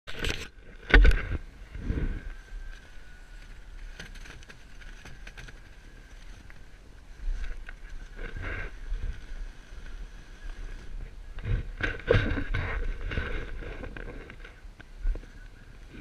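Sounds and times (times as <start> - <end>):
wind rumble on microphone: 0.1 - 16.0
faint high whine: 0.2 - 16.0.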